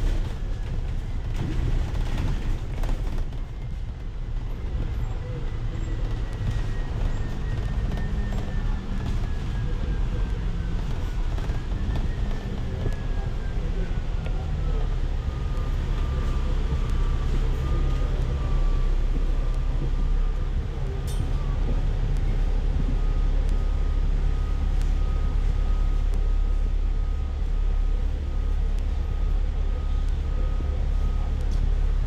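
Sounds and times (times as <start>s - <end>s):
bus engine rumble with whine: 0.0s - 32.0s.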